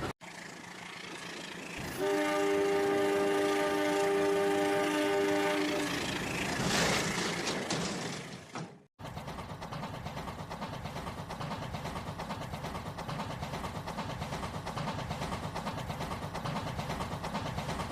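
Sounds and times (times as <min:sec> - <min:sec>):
wheels rattling on track: 0:00.0 - 0:17.9.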